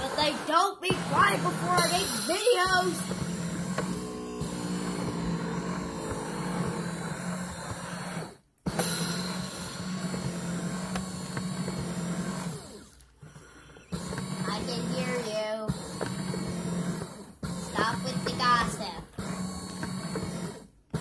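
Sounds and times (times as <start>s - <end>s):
foot massager motor hum: 0.0s - 21.0s.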